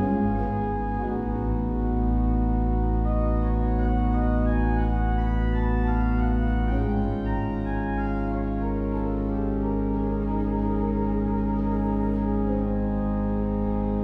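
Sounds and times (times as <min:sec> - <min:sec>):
organ-like keyboard chords: 0:00.0 - 0:14.0.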